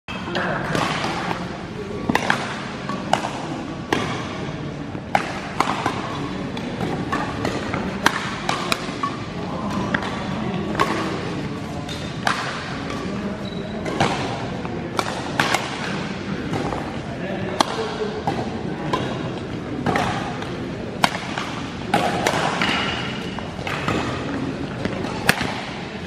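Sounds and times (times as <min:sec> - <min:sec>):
rackets striking shuttlecock: 0:00.1 - 0:13.2, 0:13.8 - 0:26.0
echoing sports hall background: 0:00.1 - 0:26.0.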